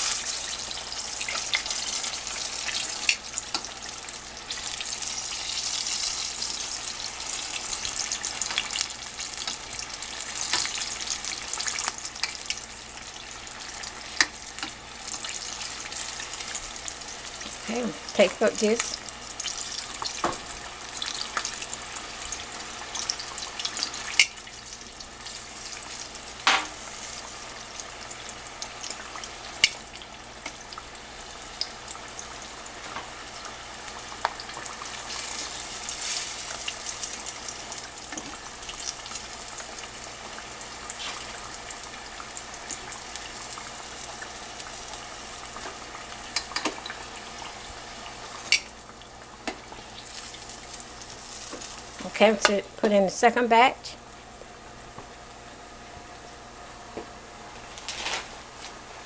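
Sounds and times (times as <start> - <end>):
chicken sizzling in hot grease: 0.0 - 59.0.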